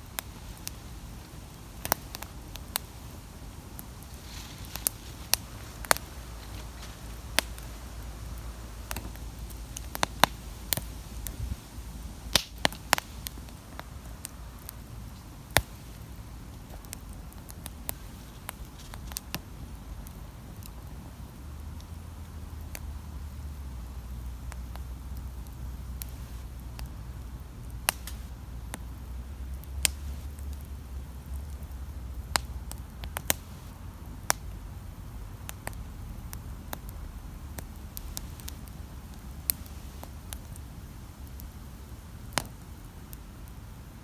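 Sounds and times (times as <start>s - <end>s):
campfire crackling: 0.0s - 44.0s.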